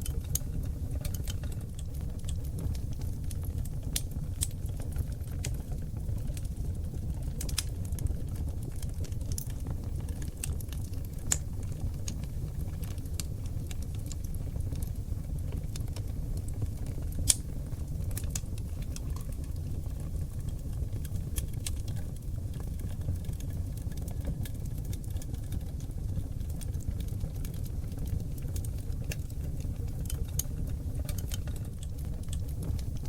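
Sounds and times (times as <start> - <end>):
logs burning in a fireplace: 0.0 - 33.0.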